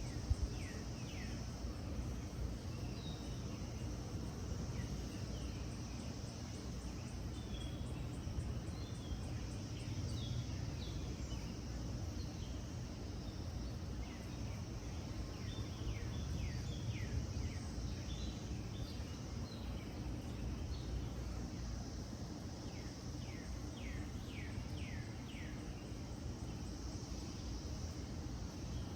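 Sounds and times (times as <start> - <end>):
insect drone: 0.0 - 28.9.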